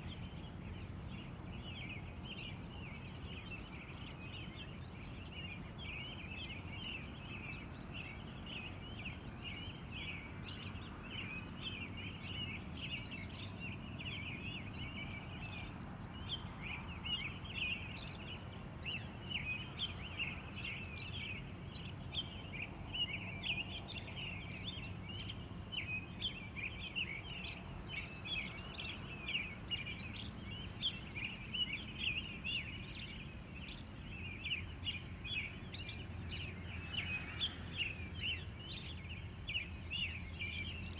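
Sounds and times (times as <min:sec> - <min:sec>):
birds chirping: 0:00.2 - 0:40.9.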